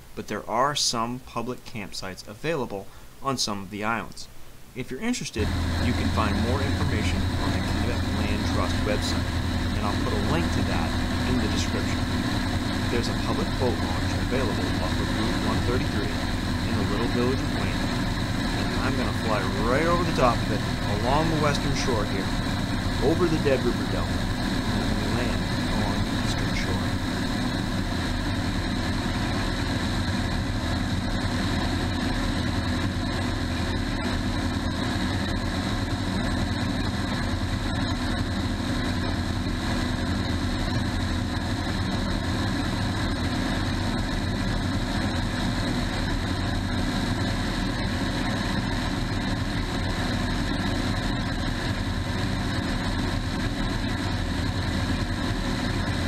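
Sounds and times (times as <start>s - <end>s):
airplane engine and propeller: 5.4s - 56.0s.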